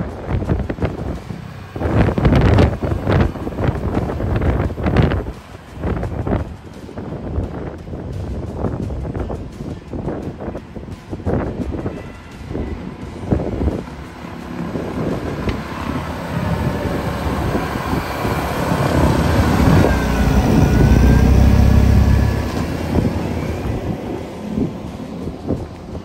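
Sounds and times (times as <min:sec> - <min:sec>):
deep rumble: 0:00.0 - 0:09.2, 0:12.5 - 0:26.0
wind buffeting microphone: 0:00.0 - 0:26.0.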